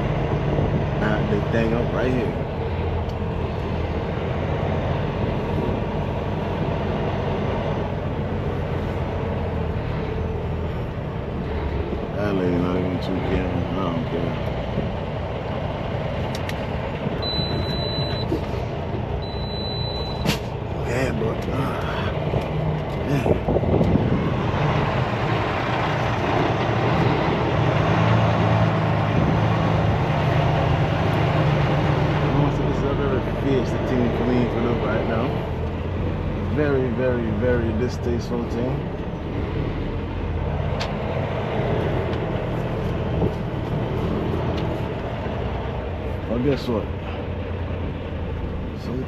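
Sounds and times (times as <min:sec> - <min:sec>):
truck diesel engine running: 0:00.0 - 0:49.0.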